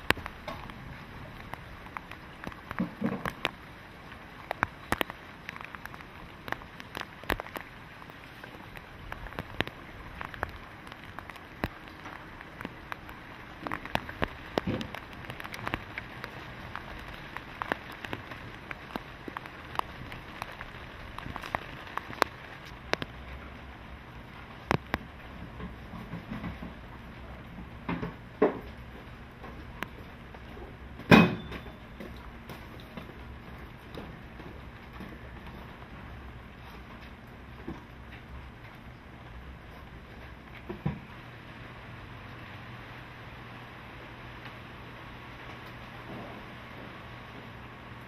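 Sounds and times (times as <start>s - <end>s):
rain hissing: 0.0s - 48.0s.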